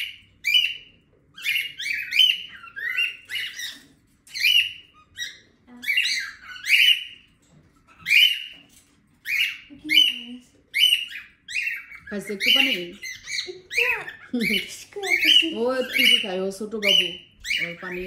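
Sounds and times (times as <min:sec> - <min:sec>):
cockatiels calling shrilly: 0:00.0 - 0:18.0.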